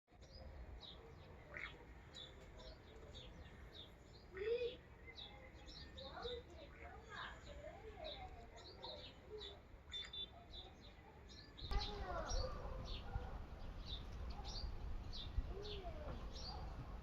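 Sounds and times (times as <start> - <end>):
sparrows chirping: 0.1 - 17.0.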